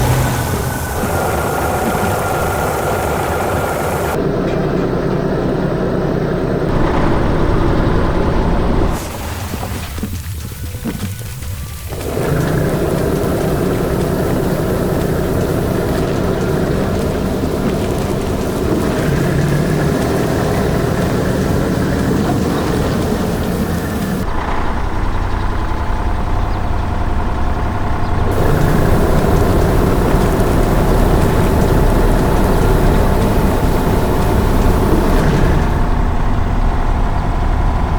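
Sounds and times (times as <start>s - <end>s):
heavy vehicle engine running: 0.0s - 37.9s.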